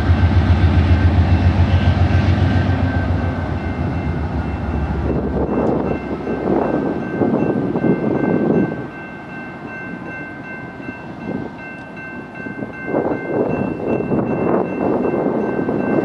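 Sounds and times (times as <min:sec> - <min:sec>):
freight train rumbling over rails: 0:00.0 - 0:16.0
crossing signal bell ringing: 0:01.2 - 0:16.0.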